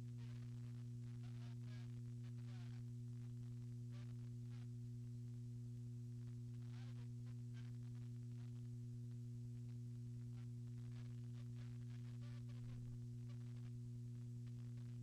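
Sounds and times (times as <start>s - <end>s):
electrical hum with low tones: 0.0s - 15.0s.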